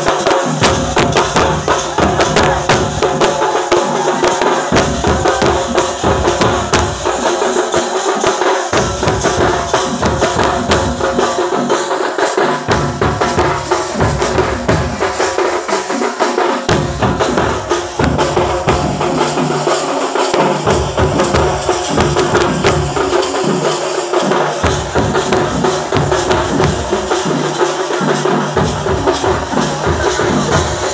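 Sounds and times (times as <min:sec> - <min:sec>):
drums beaten with sticks: 0:00.0 - 0:30.9.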